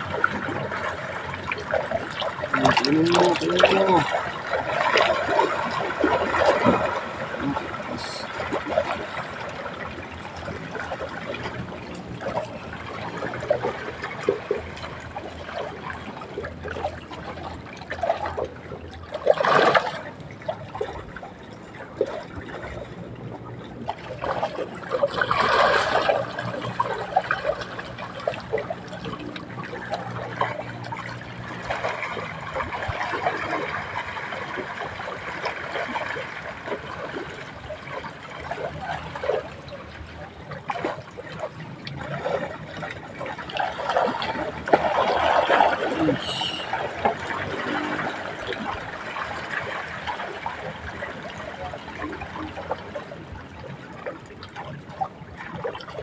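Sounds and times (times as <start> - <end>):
water splashes: 0.0 - 56.0
water trickling: 0.0 - 56.0.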